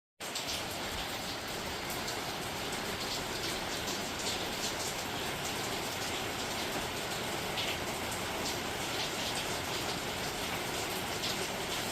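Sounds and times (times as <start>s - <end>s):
rain falling: 0.2s - 11.9s.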